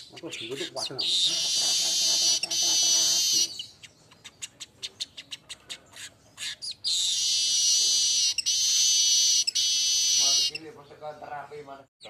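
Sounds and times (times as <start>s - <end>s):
weaver bird buzzy song: 0.0s - 11.0s.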